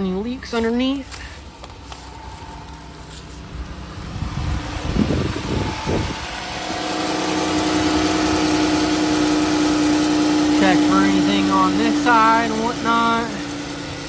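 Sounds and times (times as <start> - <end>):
car engine idling: 0.0 - 14.0
low bumps: 0.0 - 14.0.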